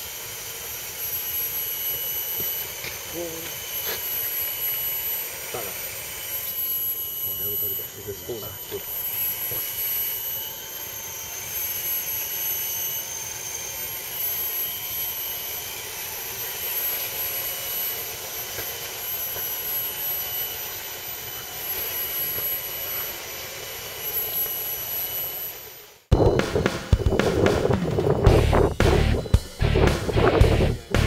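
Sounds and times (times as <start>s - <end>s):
toy truck motors whining: 0.0s - 26.1s.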